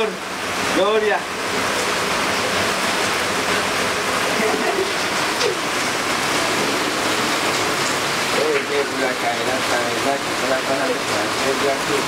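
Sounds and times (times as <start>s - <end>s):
steady rushing water-like noise: 0.0s - 12.0s.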